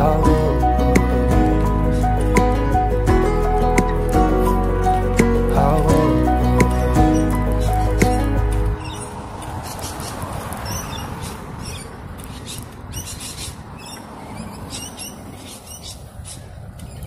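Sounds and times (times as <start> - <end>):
birds chirping: 0.0 - 17.0
wind noise on microphone: 0.0 - 17.0.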